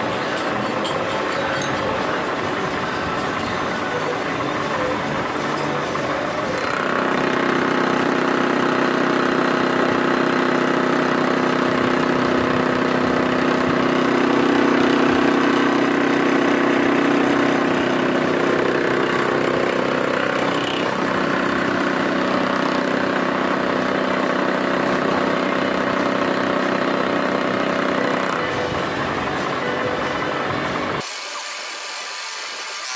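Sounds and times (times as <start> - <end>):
milling machine hum: 0.0 - 32.9.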